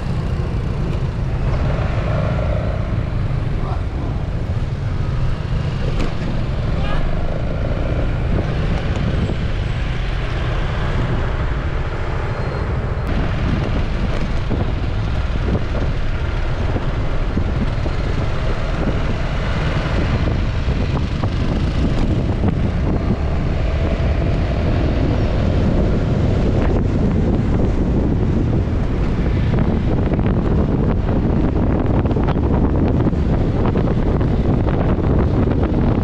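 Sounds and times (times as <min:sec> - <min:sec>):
wind noise on microphone: 0:00.0 - 0:36.0.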